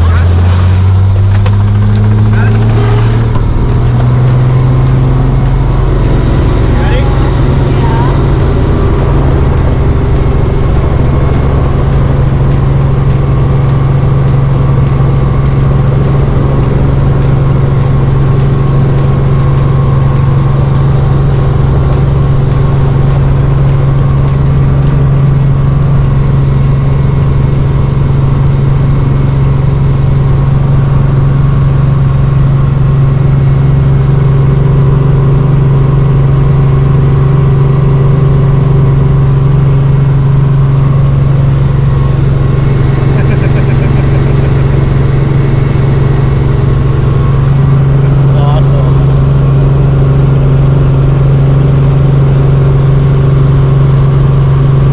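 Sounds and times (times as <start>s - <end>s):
helicopter engine and rotors: 0.0s - 54.9s.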